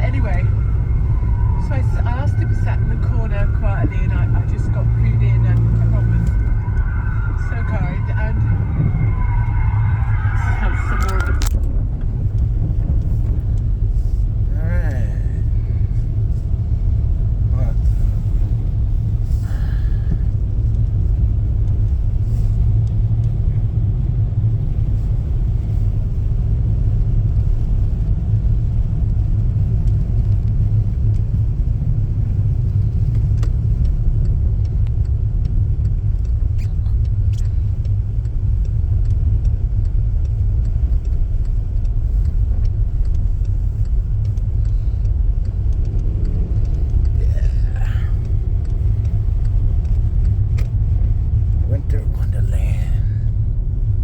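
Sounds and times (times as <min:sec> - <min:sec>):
car driving interior rumble: 0:00.0 - 0:54.0.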